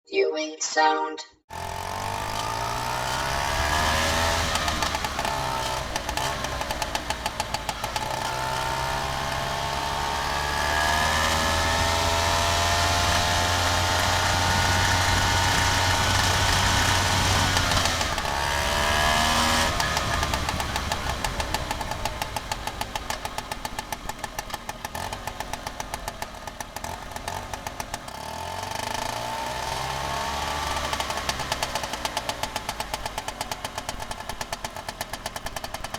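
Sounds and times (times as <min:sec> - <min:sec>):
scooter engine revving: 0:01.5 - 0:35.9.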